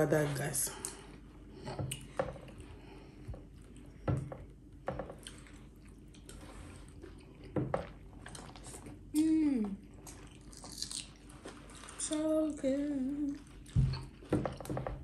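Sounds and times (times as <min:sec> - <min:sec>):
people chewing soft food: 0:00.7 - 0:15.0.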